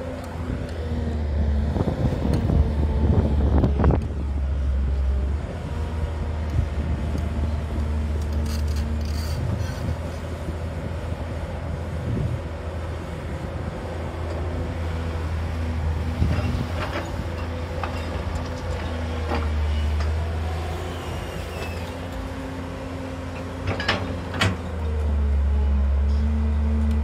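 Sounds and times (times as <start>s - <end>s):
excavator diesel engine droning: 0.0s - 27.0s.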